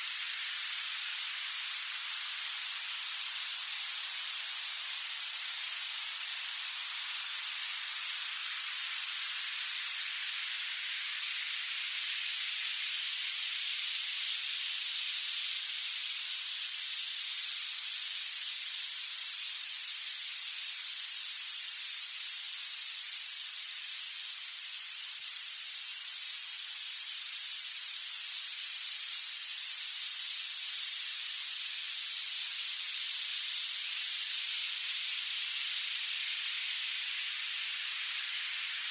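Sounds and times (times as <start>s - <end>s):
high-pitched hiss: 0.0s - 38.9s.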